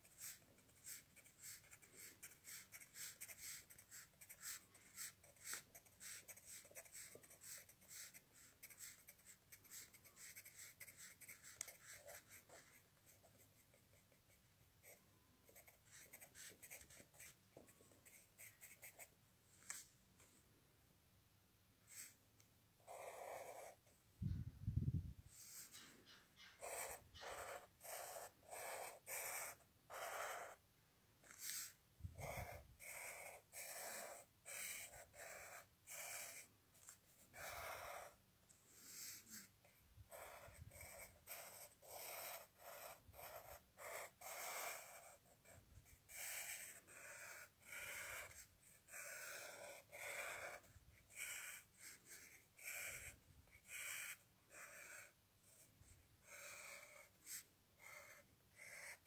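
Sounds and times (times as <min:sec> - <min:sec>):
pen scratching on paper: 0:00.0 - 0:19.1, 0:21.9 - 0:22.2, 0:22.8 - 0:23.9, 0:25.3 - 0:30.6, 0:31.2 - 0:59.0.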